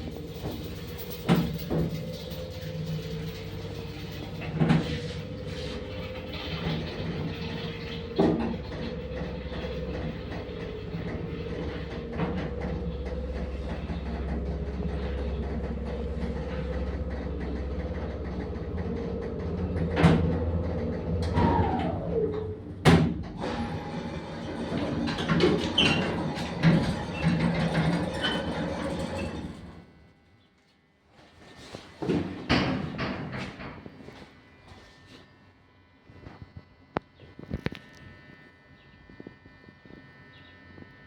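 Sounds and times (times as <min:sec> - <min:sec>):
elevator humming and whining: 0:00.0 - 0:30.3, 0:31.3 - 0:41.0.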